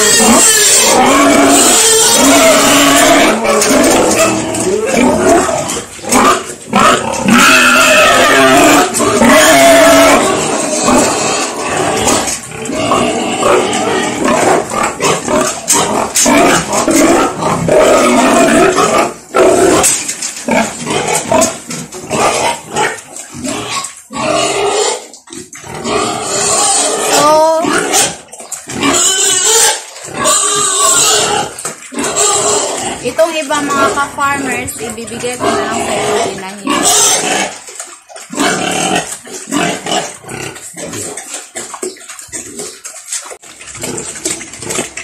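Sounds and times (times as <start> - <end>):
pig chomping and slurping: 0.0 - 45.0.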